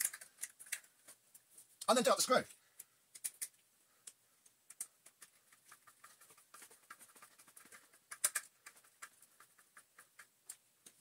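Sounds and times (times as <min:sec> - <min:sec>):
small clicks and light scrapes: 0:00.0 - 0:01.9, 0:02.5 - 0:11.0.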